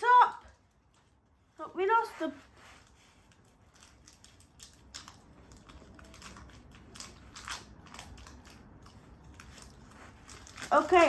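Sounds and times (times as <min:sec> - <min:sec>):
faint clicks and crackles: 0:00.0 - 0:11.0.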